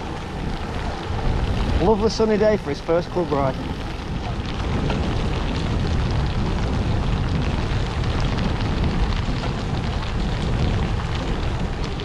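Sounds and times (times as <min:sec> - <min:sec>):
tyres on wet road: 0:00.0 - 0:12.0
wind rushing over microphone: 0:00.0 - 0:12.0.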